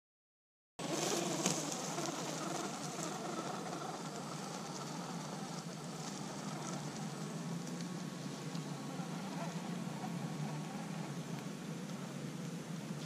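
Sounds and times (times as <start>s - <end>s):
rc car motor and tyres rushing: 0.8s - 11.5s.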